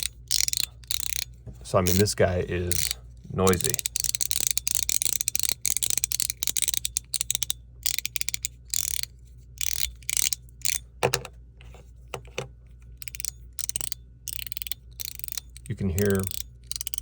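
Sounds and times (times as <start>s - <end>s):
fidget slider balls clicking: 0.0s - 11.2s, 12.2s - 17.0s.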